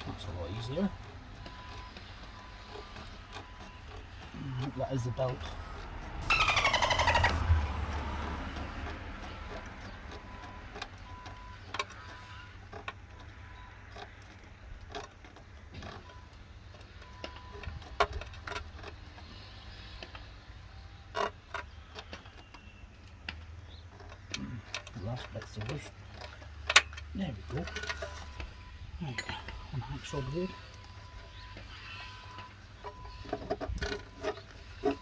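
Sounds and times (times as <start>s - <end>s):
clicks and knocks of engine parts: 0.0s - 35.0s.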